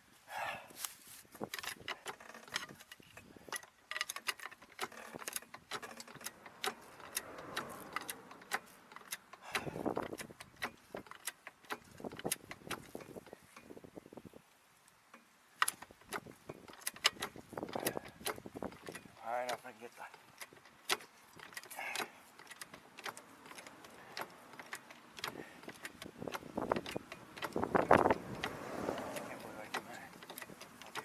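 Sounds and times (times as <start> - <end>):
car jack clicking and clanking: 1.5 - 13.7, 15.6 - 31.0.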